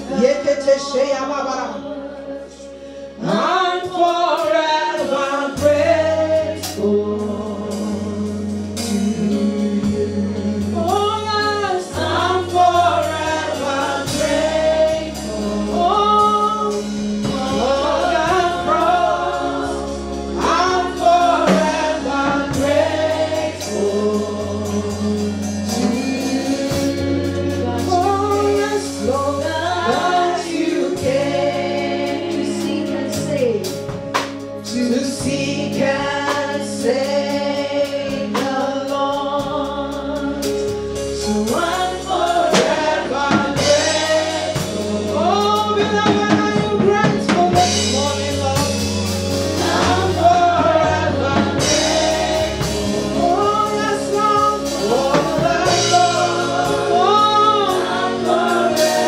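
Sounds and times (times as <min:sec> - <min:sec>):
sustained instrumental chords: 0:00.0 - 0:59.0
voices singing gospel song: 0:00.0 - 0:59.0.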